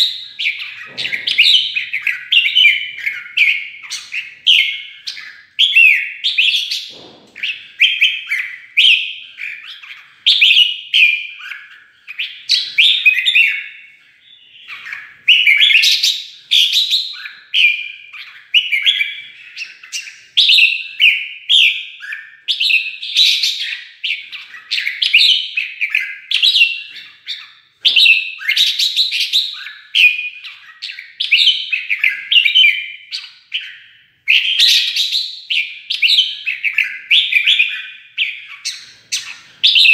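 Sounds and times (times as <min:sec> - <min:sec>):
bulbul whistled song: 0:00.0 - 0:39.9.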